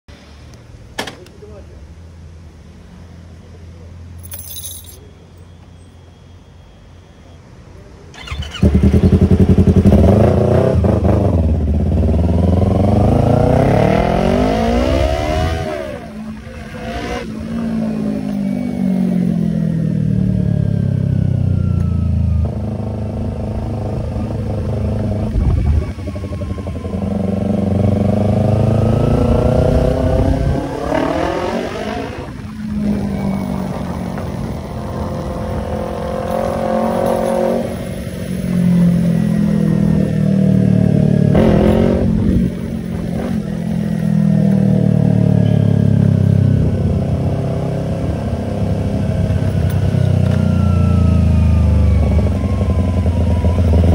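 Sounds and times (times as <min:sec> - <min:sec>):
motorcycle engine revving: 0:08.1 - 0:53.9.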